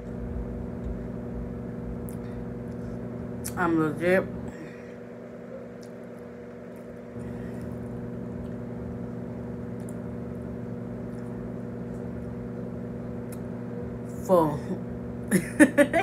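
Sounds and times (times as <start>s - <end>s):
machine hum with low buzz: 0.0s - 16.0s.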